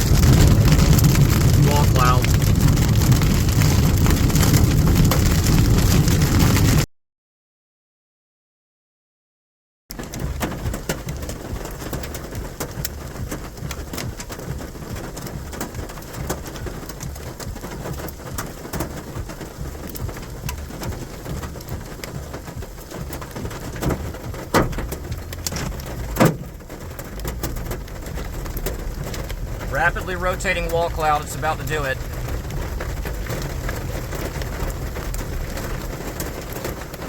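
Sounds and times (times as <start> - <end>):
low rumble: 0.0 - 6.8, 10.2 - 37.0
rain drops striking: 0.0 - 6.9, 9.9 - 37.0.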